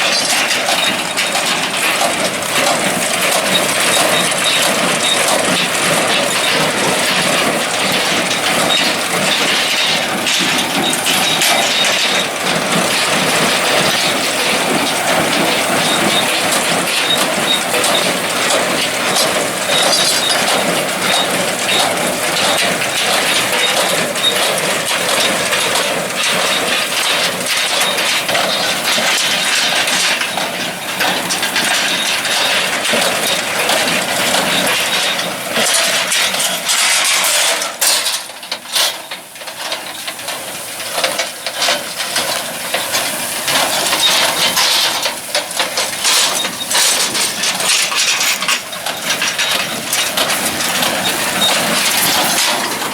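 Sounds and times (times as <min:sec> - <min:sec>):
hay baler clattering: 0:00.0 - 0:52.9
tractor engine: 0:00.0 - 0:52.9.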